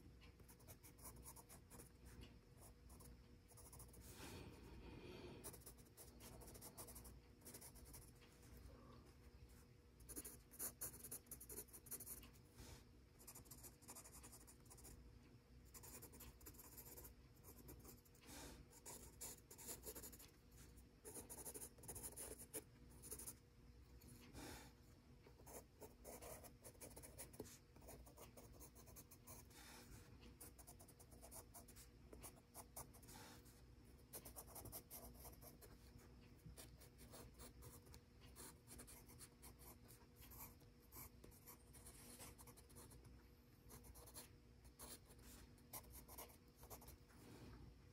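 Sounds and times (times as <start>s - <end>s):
pencil scratching on paper: 0.4s - 4.1s, 5.4s - 8.2s, 10.0s - 12.3s, 13.2s - 15.0s, 15.7s - 23.4s, 25.4s - 43.0s, 43.7s - 47.0s.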